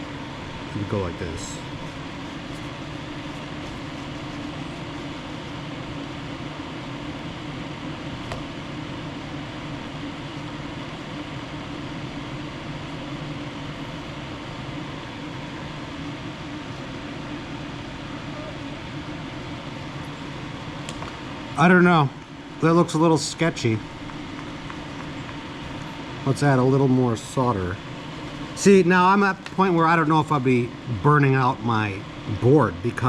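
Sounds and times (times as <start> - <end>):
fan whirring hum: 0.0 - 33.0.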